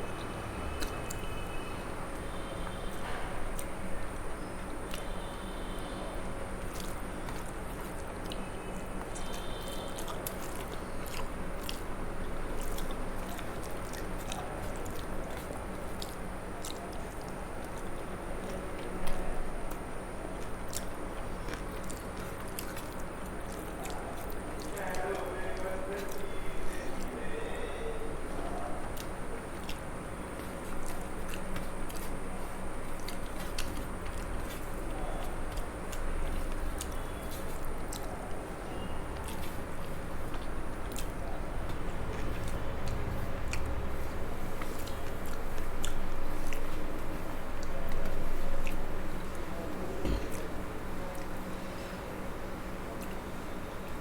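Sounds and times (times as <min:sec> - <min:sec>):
background hum: 0:00.0 - 0:54.0
person chewing food: 0:00.1 - 0:05.8, 0:06.6 - 0:26.2, 0:28.4 - 0:51.6.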